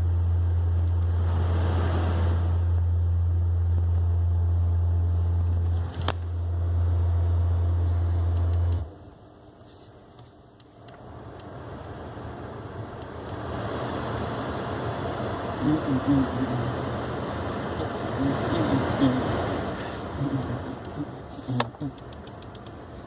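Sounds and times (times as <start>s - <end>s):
car humming: 0.0s - 23.0s.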